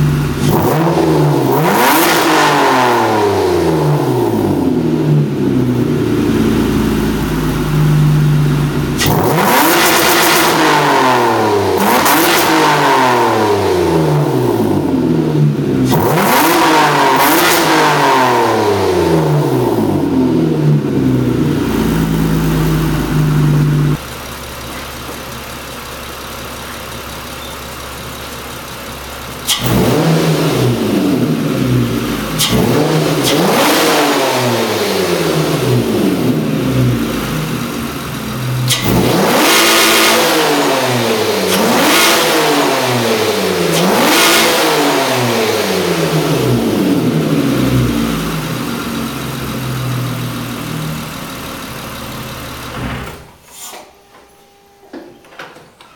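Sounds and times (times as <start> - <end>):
car engine revving: 0.0 - 24.1, 29.4 - 52.9.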